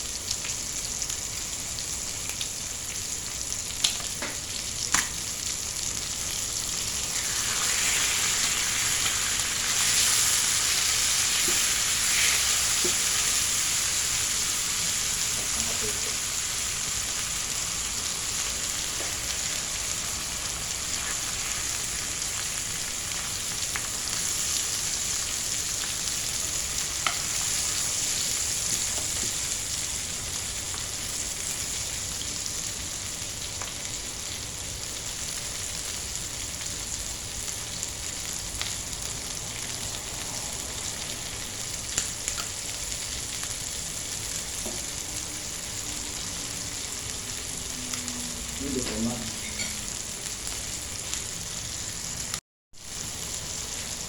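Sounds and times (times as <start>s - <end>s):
chicken sizzling in oil: 0.0s - 54.0s.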